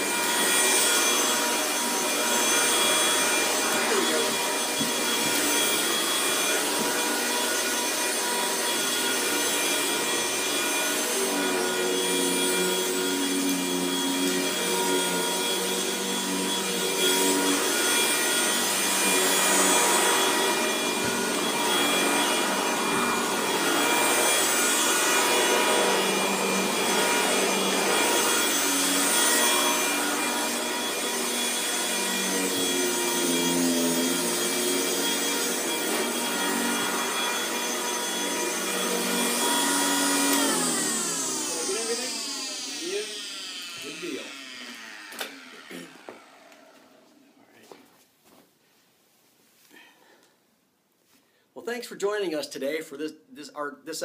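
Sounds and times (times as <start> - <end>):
vacuum cleaner motor whining: 0.0 - 47.2.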